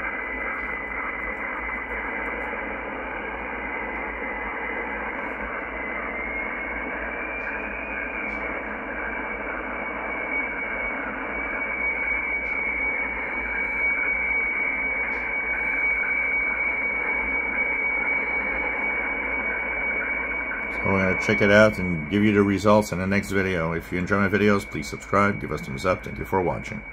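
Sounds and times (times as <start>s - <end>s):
radio band hiss: 0.0s - 26.9s
steady high radio tone: 0.0s - 26.9s.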